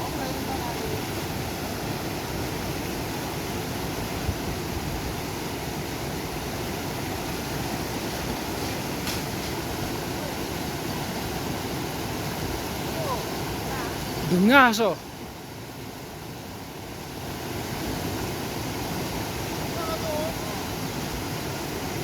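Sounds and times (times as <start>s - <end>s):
rushing mountain river: 0.0s - 22.0s.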